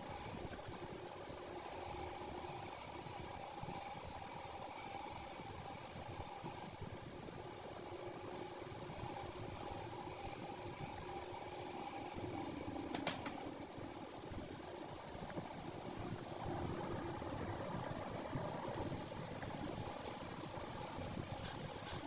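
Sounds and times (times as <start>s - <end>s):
mechanical running hum: 0.0s - 22.0s.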